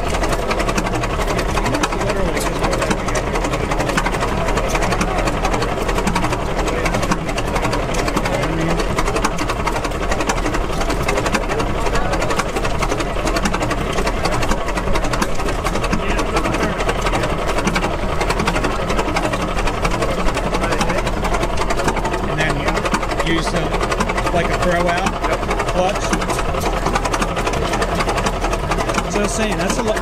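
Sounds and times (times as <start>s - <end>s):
engine mechanical clatter: 0.0s - 30.0s.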